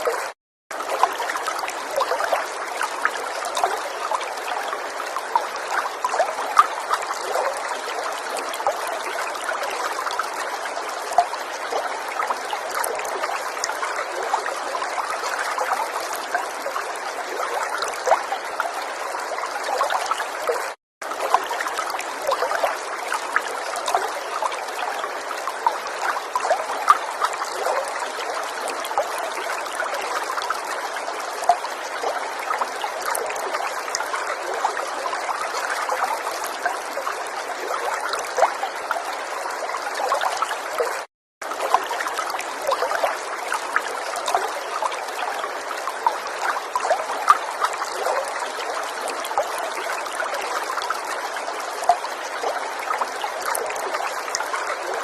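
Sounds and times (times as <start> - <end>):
river babbling over stones: 0.0 - 55.0.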